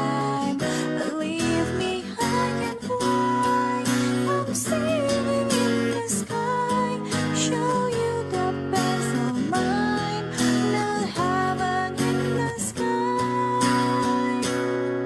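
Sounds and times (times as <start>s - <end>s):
acoustic guitar song: 0.0s - 15.0s.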